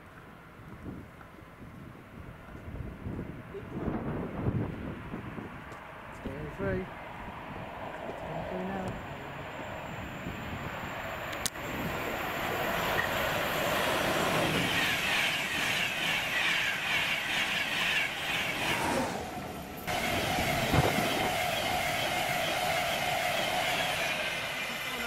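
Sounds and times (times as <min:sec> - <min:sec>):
rushing wheel and rail noise: 0:00.0 - 0:25.0.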